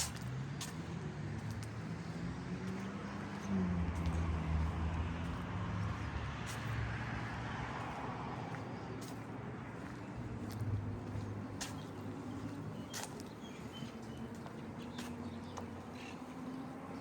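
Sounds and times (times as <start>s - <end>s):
vehicle engines humming: 0.0s - 17.0s.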